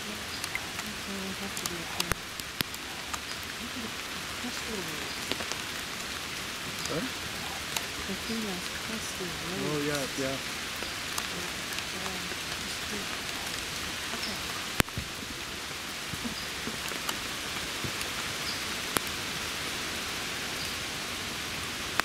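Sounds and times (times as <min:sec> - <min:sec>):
rain pattering on leaves: 0:00.0 - 0:22.0.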